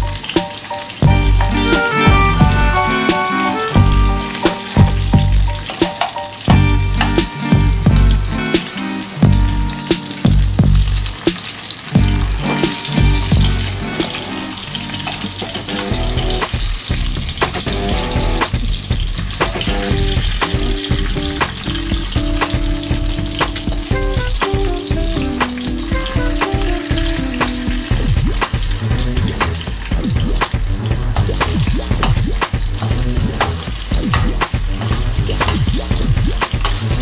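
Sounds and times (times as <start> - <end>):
background music: 0.0 - 37.0
fish sizzling in hot oil: 0.0 - 37.0.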